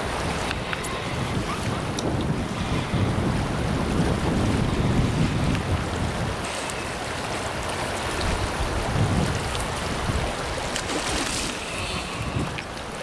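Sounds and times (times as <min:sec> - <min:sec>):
river running over gravel: 0:00.0 - 0:13.0
wind gusting on microphone: 0:00.0 - 0:13.0.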